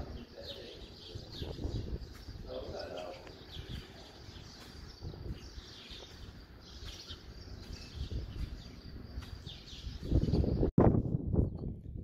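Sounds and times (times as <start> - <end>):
small birds chirping: 0.0 - 10.7
wind rumble on microphone: 0.0 - 12.0.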